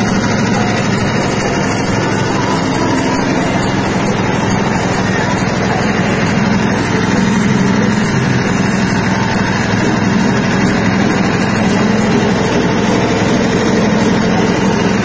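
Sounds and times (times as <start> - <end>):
machine motor droning: 0.0 - 15.0.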